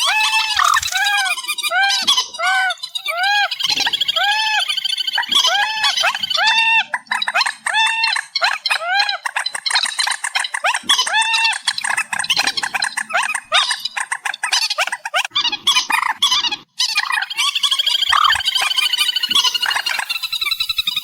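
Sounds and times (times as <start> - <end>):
dense bird chorus: 0.0 - 15.0, 17.0 - 21.0
birds calling: 0.0 - 21.0.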